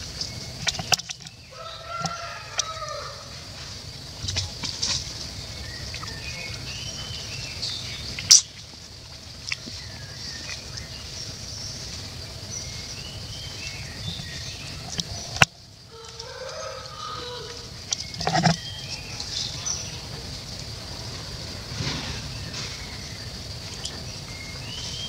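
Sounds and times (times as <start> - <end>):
birds chirping: 0.0 - 25.0
steady high hiss: 0.0 - 25.0.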